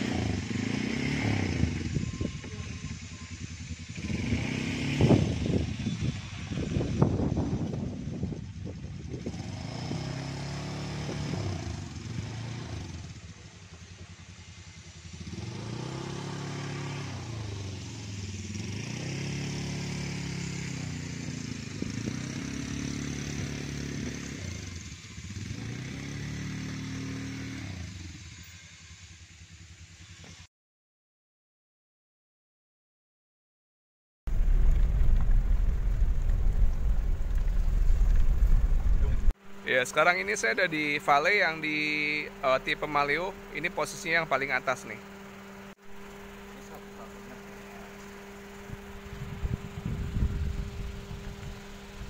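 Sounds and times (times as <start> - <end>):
motorcycle engine revving: 0.0 - 30.5, 34.3 - 52.0.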